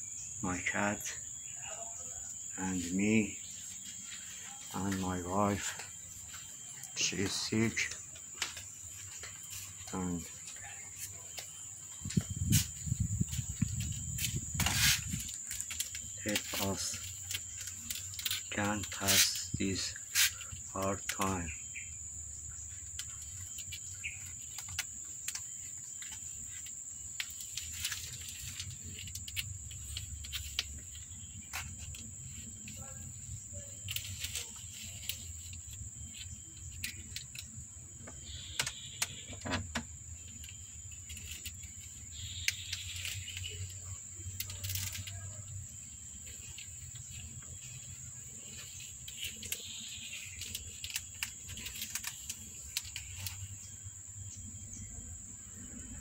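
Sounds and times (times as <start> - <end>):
crickets droning: 0.0 - 56.0.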